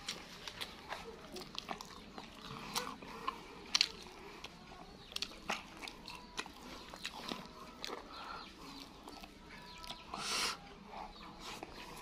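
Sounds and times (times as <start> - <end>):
person chewing with lip smacks: 0.0 - 10.2.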